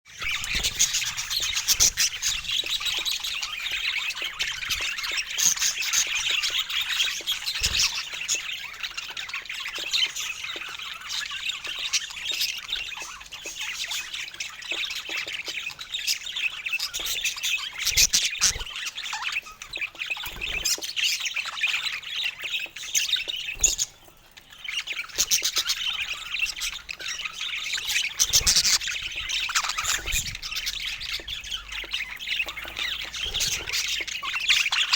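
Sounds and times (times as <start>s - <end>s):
budgies chirping and chattering: 0.1s - 34.9s.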